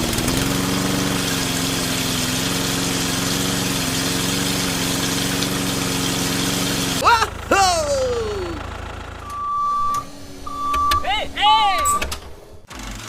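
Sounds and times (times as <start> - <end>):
motor running steadily: 0.0 - 11.1.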